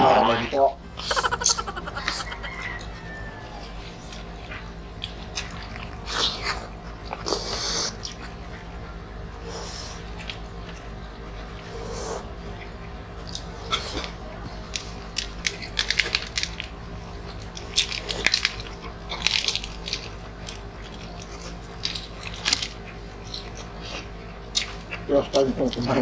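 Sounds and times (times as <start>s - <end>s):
faint steady hum: 0.0s - 26.0s
people chewing food: 1.0s - 26.0s.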